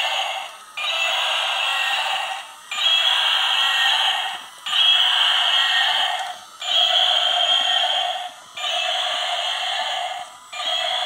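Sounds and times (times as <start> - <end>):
toy electronic roar: 0.0 - 11.0.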